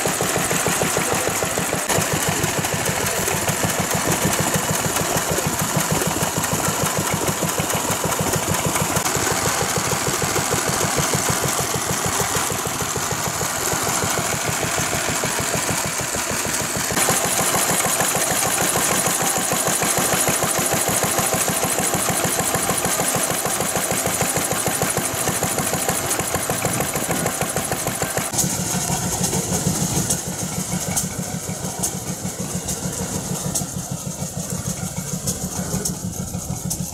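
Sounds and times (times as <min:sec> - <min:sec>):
stationary engines running: 0:00.0 - 0:36.9.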